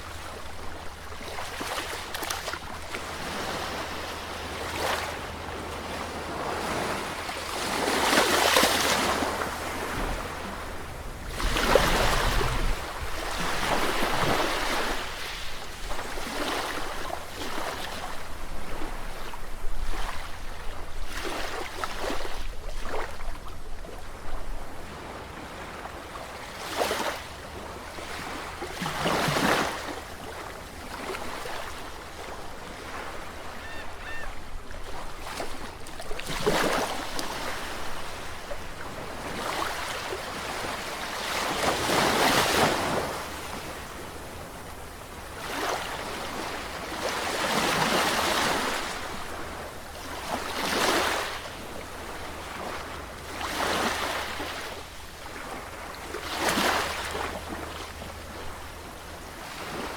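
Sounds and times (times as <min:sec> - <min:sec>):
sea waves breaking: 0:00.0 - 0:23.2, 0:24.6 - 0:59.9.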